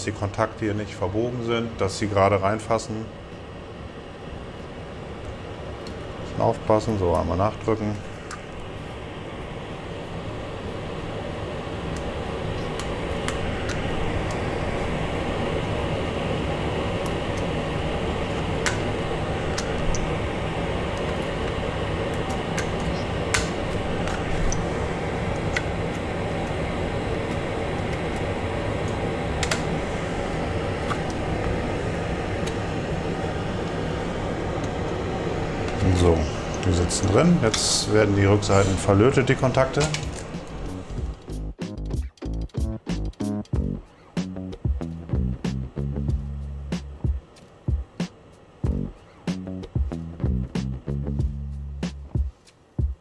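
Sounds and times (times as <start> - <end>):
fan whirring: 0.0 - 53.0.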